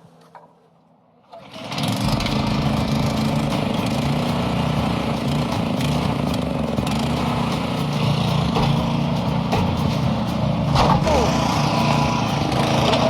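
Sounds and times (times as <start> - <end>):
excavator engine running: 1.7 - 13.0.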